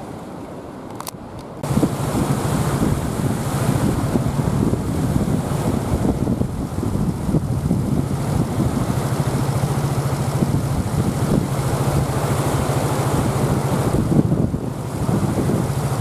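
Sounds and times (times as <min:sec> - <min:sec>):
surf: 0:00.0 - 0:16.0
wind buffeting microphone: 0:01.6 - 0:16.0.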